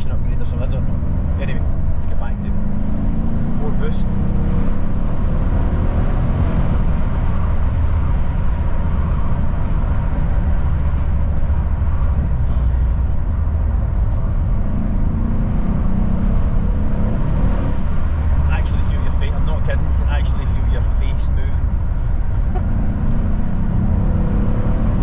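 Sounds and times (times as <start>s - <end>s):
road noise: 0.0s - 25.0s.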